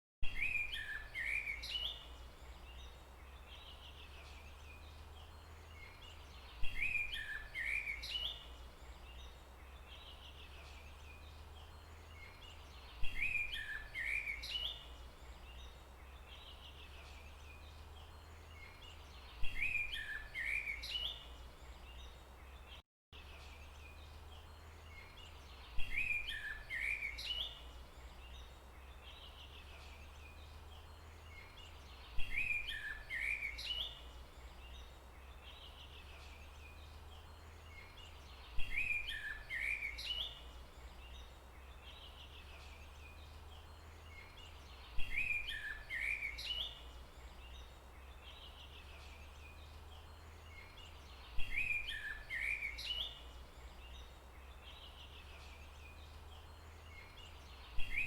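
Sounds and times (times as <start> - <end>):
songbird chirping: 0.2 - 58.0.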